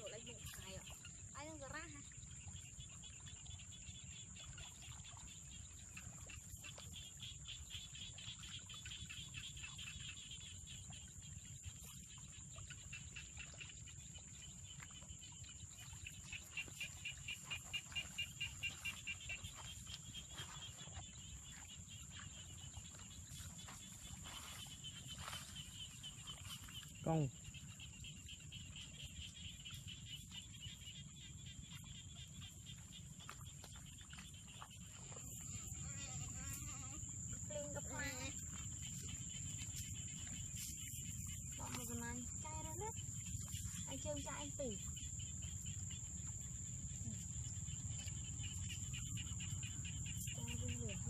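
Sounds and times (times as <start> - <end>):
insects chirping: 0.0 - 51.0.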